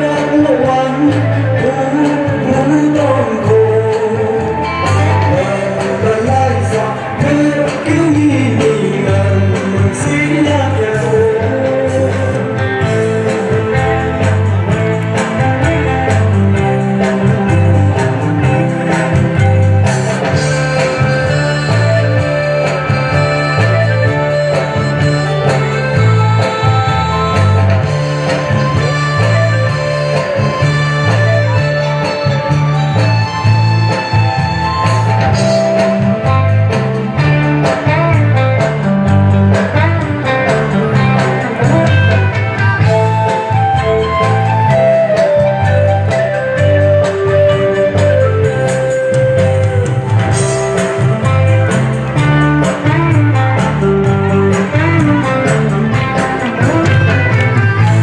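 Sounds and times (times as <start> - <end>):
bass line: 0.0 - 58.0
traditional dance music: 0.0 - 58.0
plucked string melody: 0.1 - 58.0.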